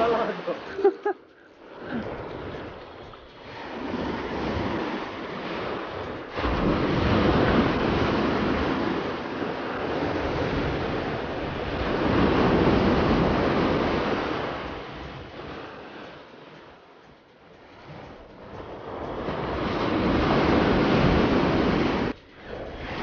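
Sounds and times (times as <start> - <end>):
wind buffeting microphone: 1.5 - 23.0
surf breaking on beach: 1.7 - 16.7, 17.8 - 23.0.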